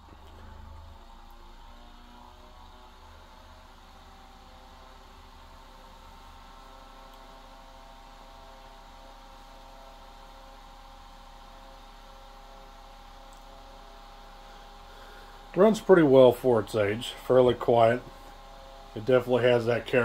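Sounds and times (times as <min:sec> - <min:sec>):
table fan motor humming: 0:00.0 - 0:20.0.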